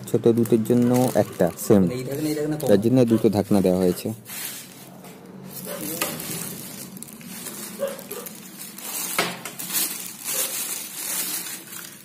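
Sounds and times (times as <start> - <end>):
sharp plastic crackle: 0.0 - 3.0, 4.2 - 12.0
plastic wrapping crinkling: 0.0 - 12.0.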